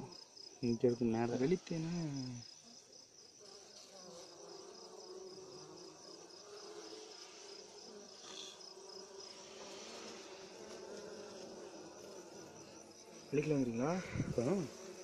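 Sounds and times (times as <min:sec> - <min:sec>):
bees buzzing: 0:00.0 - 0:15.0
cricket chirping: 0:00.0 - 0:15.0.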